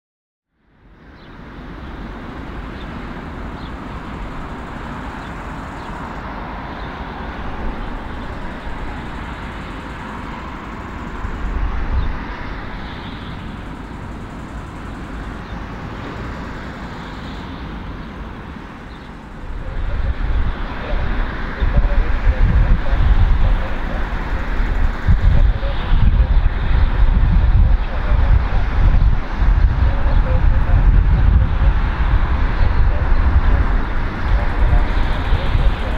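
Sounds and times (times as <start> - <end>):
airplane landing rush and rumble: 0.7 - 35.9.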